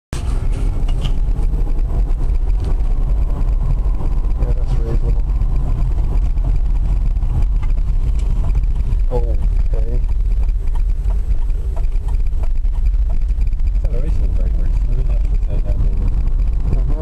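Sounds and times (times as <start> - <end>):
road and wind noise inside car: 0.2 - 17.0.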